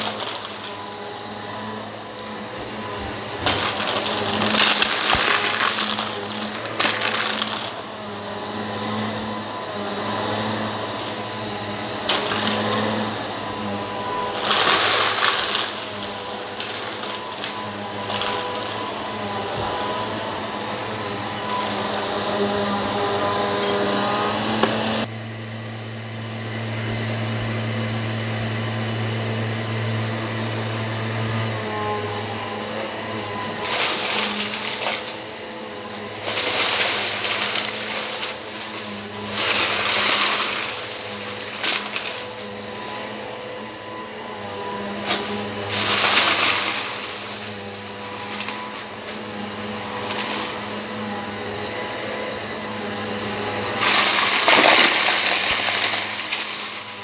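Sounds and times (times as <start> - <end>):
vacuum sucking up debris: 0.0 - 25.1, 28.1 - 57.0
upright vacuum cleaner running: 0.0 - 57.0.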